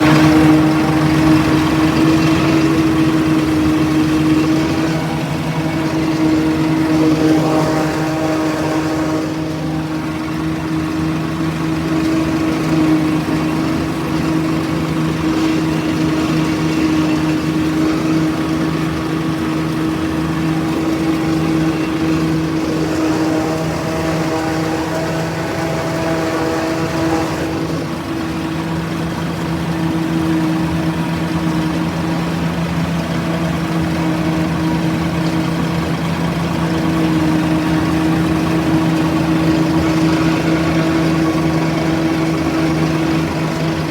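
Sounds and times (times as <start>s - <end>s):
harvester machinery droning: 0.0s - 43.9s
tractor engine under load: 0.0s - 43.9s.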